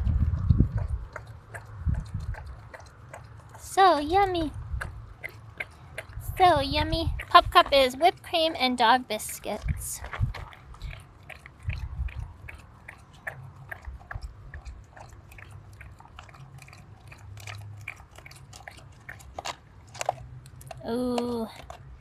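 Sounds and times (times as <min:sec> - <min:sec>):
tongue slurping: 0:00.0 - 0:08.4, 0:09.1 - 0:22.0
dog licking and chewing: 0:00.0 - 0:22.0.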